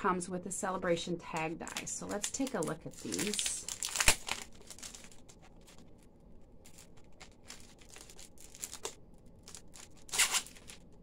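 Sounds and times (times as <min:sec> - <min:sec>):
packaging rustling and crinkling: 0:01.6 - 0:11.0.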